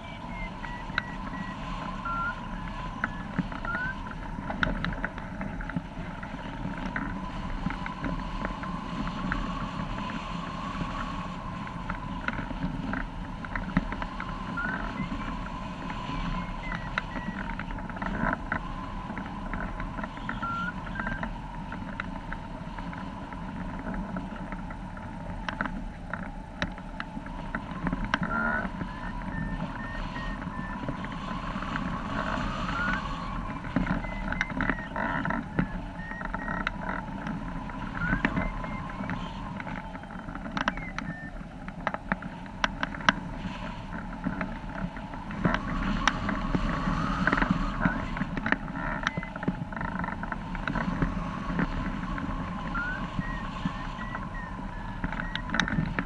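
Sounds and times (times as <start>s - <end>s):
rush of air in gusty flight: 0.0s - 56.0s
sail and frame knocking and fluttering: 0.0s - 56.0s.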